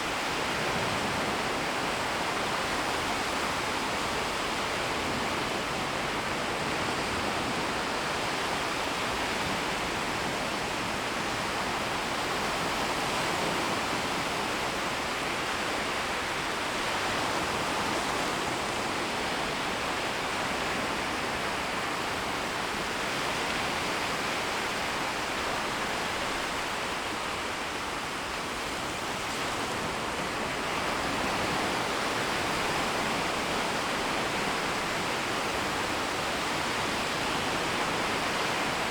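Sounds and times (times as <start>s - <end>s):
small waves washing on shore: 0.0s - 38.9s.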